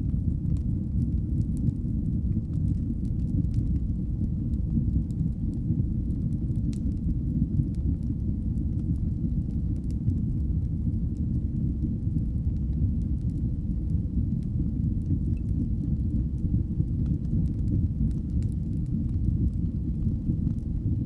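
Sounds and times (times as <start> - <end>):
fire crackles and pops: 0.0 - 21.0
fire rumbling in fireplace: 0.0 - 21.0.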